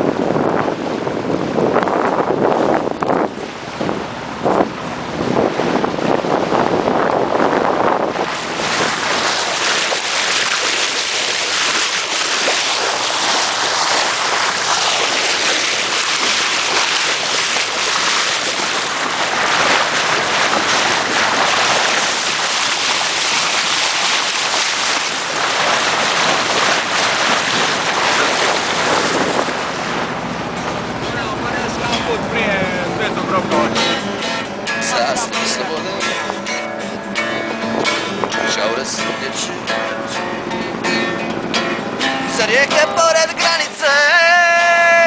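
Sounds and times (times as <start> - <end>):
wind buffeting microphone: 0.0 - 42.5
water splashing past boat hull: 0.0 - 45.0.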